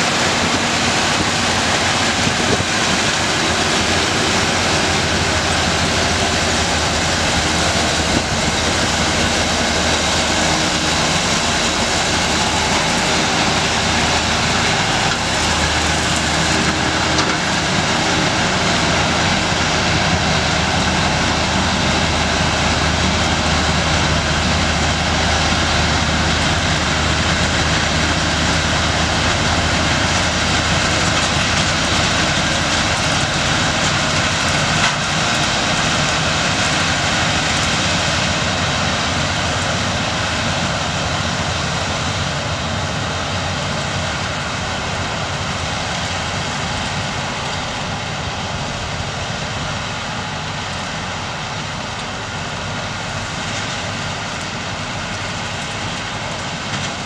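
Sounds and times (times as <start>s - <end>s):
tractor and baler running: 0.0s - 57.0s.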